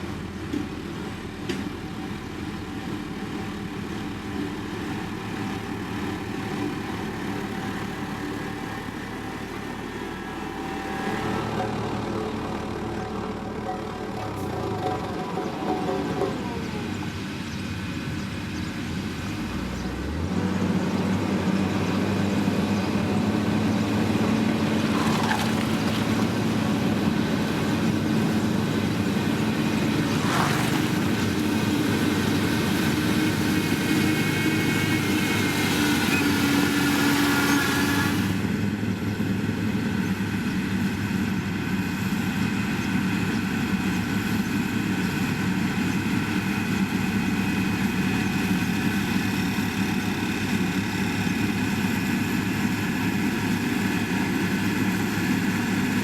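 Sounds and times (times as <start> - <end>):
heavy construction machinery running: 0.0 - 56.0.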